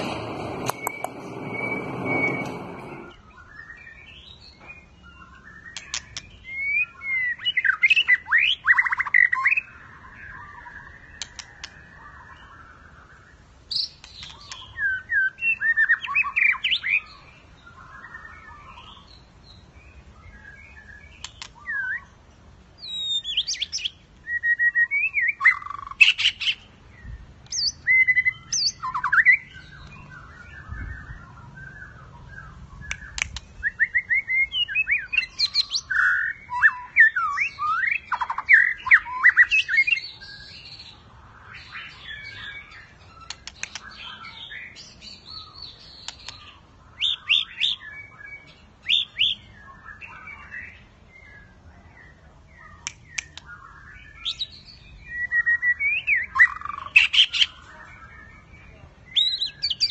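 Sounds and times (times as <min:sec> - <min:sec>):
songbird whistling and trilling: 0:00.0 - 0:22.2, 0:22.8 - 0:51.6, 0:52.6 - 0:59.9.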